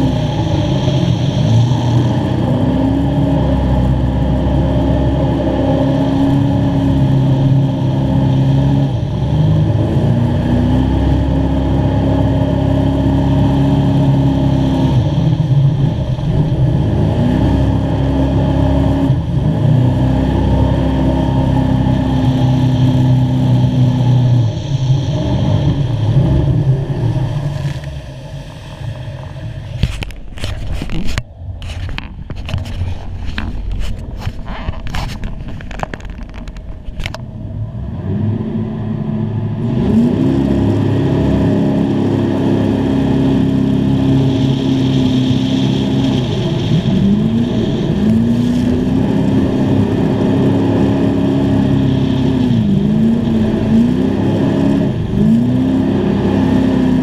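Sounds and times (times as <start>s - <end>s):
sharp engine crackles: 0.0s - 38.3s, 39.3s - 57.0s
jet boat engine revving: 0.0s - 57.0s.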